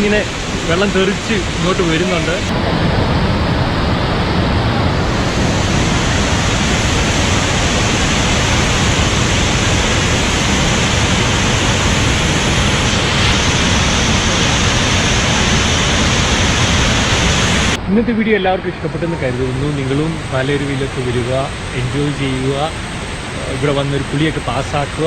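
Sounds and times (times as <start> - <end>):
waterfall rushing: 0.0 - 17.8, 19.1 - 25.0.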